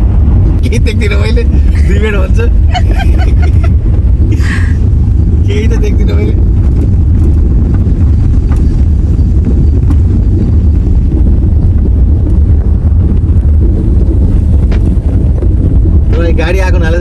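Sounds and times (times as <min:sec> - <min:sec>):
tyres and engine rumble: 0:00.0 - 0:17.0.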